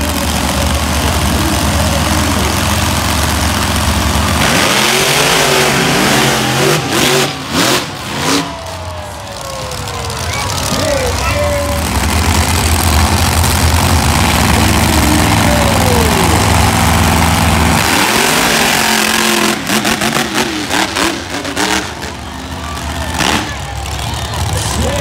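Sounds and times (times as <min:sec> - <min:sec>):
monster truck engines revving: 0:00.0 - 0:25.0.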